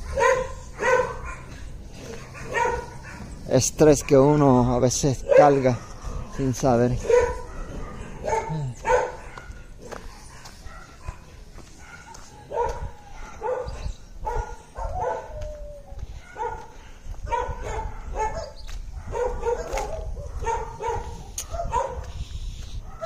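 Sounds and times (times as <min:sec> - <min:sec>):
dogs barking: 0:00.0 - 0:22.2, 0:22.8 - 0:23.0.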